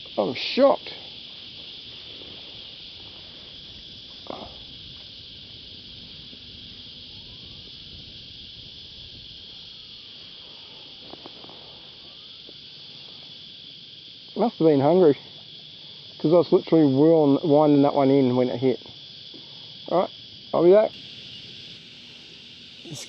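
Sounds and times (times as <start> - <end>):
cicadas singing: 0.0 - 23.0.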